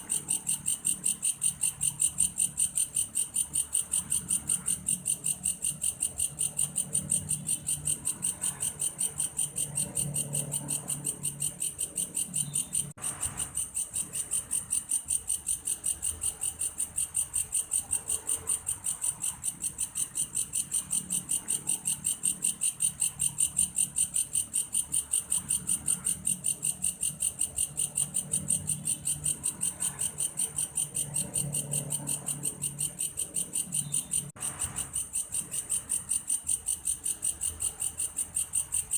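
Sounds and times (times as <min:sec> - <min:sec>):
insect pulsed high chirping: 0:00.0 - 0:38.9.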